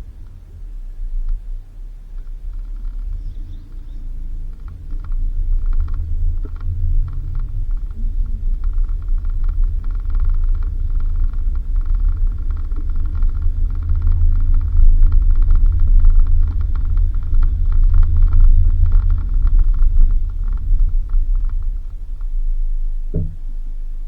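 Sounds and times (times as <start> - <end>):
rattles and clicks: 0.0 - 23.7
car engine and tyres rumbling: 0.0 - 24.0.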